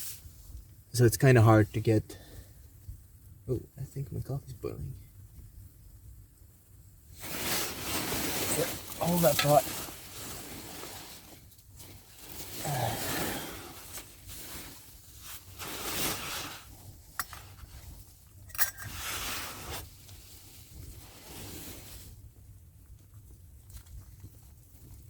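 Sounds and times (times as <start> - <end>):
wind buffeting a tarp: 2.2 - 25.0.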